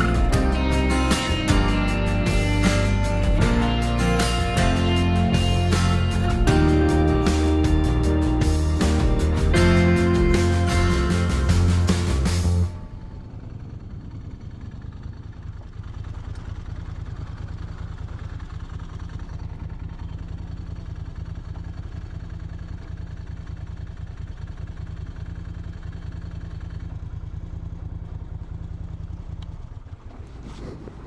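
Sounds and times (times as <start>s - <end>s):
motorcycle engine idling: 0.0s - 30.2s.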